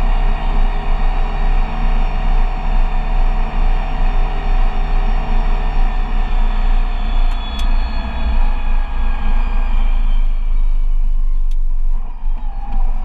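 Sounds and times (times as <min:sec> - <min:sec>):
diesel engine running: 0:00.0 - 0:12.8.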